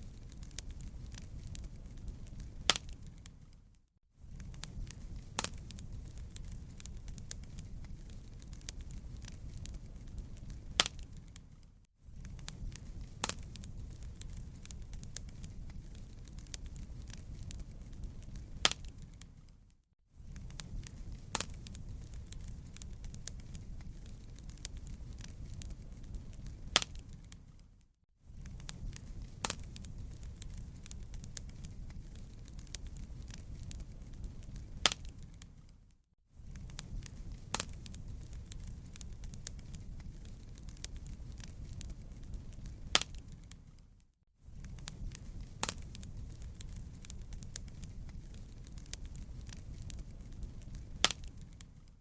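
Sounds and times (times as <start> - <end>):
sharp pops of fire: 0.0 - 3.6, 4.3 - 19.5, 20.2 - 27.7, 28.3 - 35.8, 36.4 - 43.8, 44.5 - 52.0
wood fire crackling: 0.0 - 52.0.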